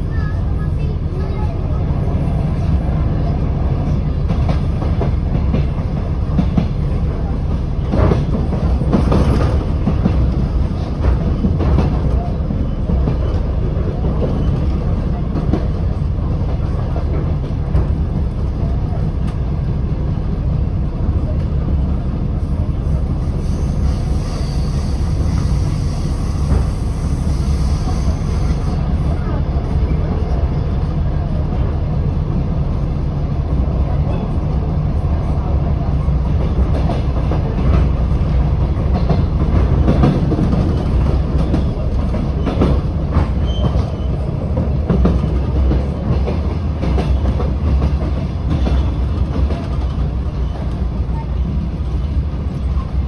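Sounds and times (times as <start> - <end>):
diesel train rumble: 0.0 - 53.0.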